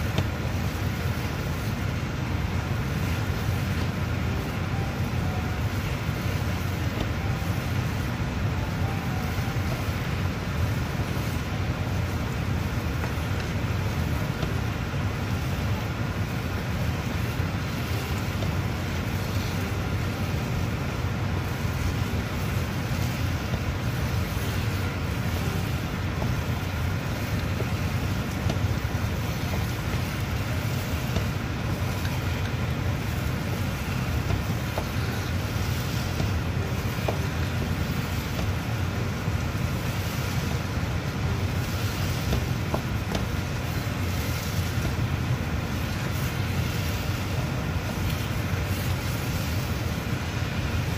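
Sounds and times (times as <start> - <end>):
low rumbling noise: 0.0 - 50.9.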